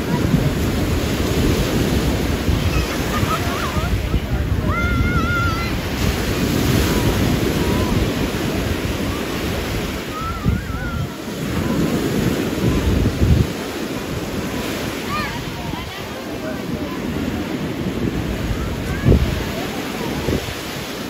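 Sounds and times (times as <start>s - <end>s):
faint voices: 0.0s - 21.0s
small waves breaking on beach: 0.0s - 21.0s
wind gusting on microphone: 0.0s - 21.0s.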